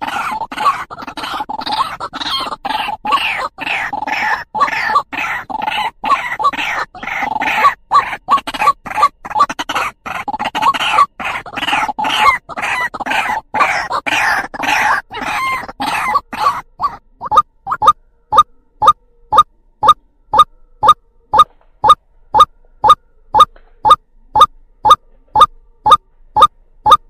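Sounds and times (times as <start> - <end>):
bird calling harsh notes: 0.0 - 27.0.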